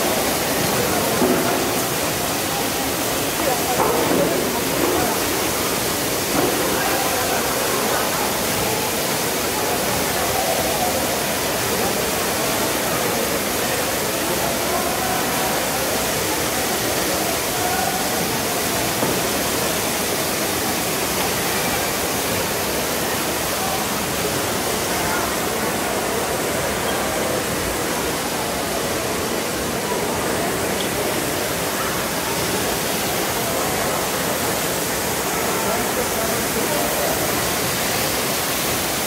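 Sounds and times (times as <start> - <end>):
floodwater rushing across floors: 0.0 - 39.0.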